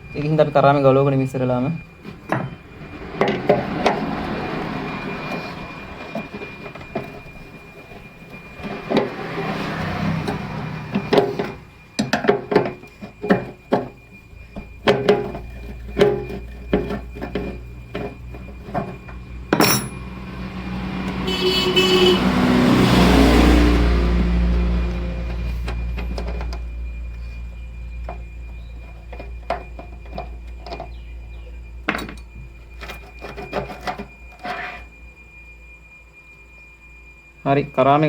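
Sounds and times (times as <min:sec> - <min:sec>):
low vehicle rumble: 0:00.0 - 0:12.1, 0:14.1 - 0:33.2.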